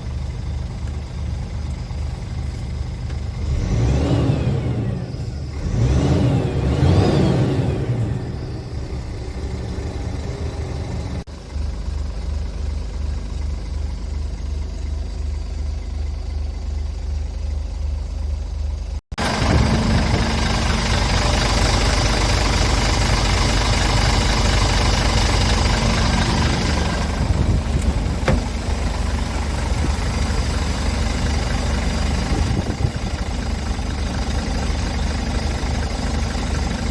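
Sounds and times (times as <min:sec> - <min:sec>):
diesel truck engine idling: 0:00.0 - 0:36.9.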